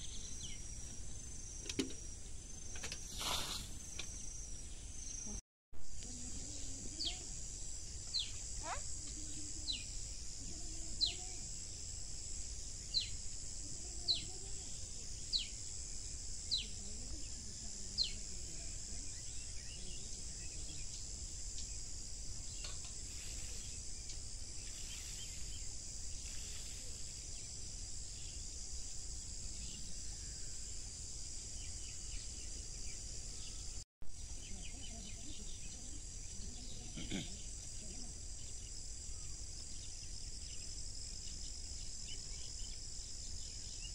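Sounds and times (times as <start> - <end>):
insect chorus: 0.0 - 43.9.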